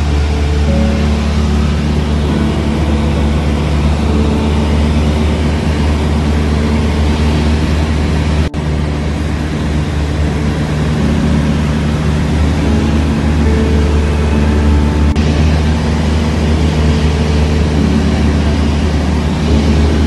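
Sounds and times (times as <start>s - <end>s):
small plane engine drone in cabin: 0.0s - 20.0s.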